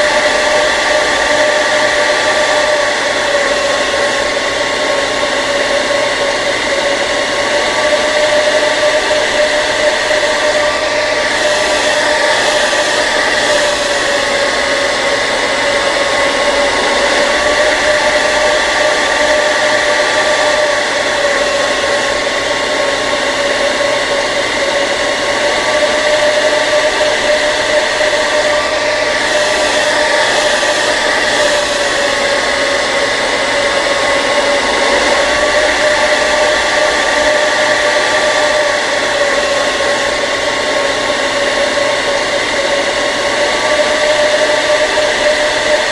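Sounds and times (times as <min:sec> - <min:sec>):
hair dryer running: 0:00.0 - 0:45.9.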